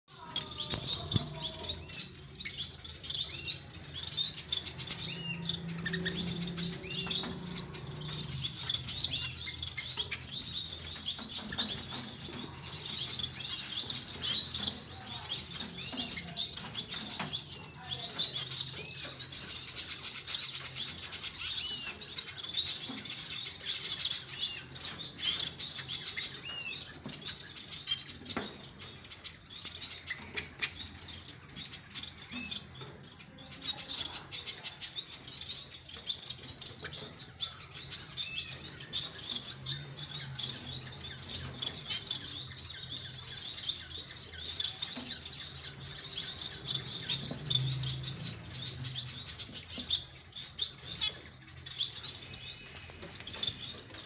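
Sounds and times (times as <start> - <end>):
finches chirping: 0.1 - 54.0.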